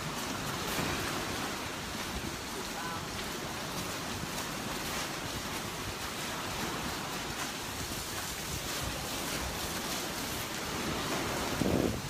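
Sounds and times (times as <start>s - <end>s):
rain: 0.0s - 12.0s
sea waves: 0.0s - 12.0s
wind rumbling on microphone: 0.0s - 12.0s.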